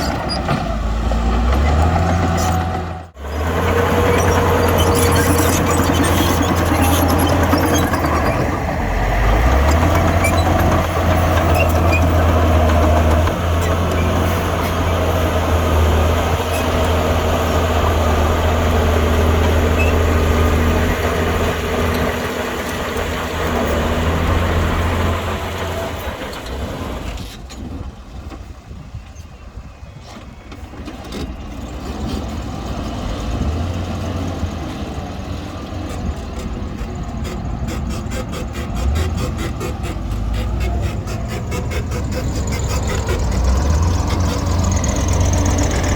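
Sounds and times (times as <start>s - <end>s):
diesel engine running under load: 0.0s - 28.9s, 30.3s - 45.9s.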